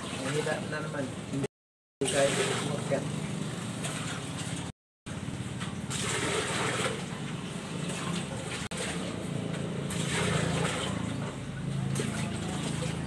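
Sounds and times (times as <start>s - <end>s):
water splashing over dishes: 0.0s - 13.0s.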